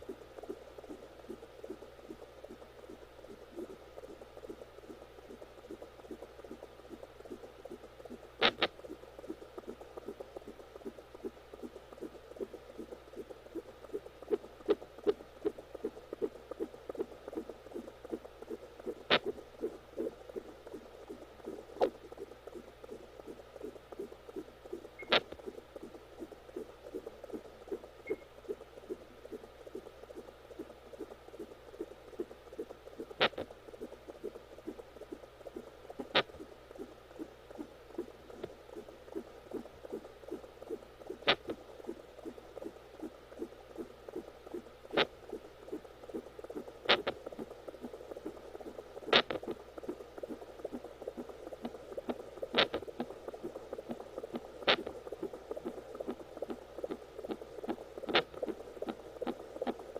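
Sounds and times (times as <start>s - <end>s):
fetal heartbeat pulsing: 0.0s - 59.9s.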